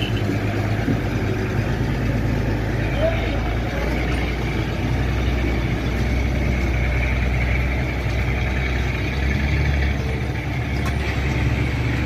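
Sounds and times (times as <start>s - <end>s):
truck diesel engine running: 0.0s - 12.0s
truck wading through water: 0.0s - 12.0s.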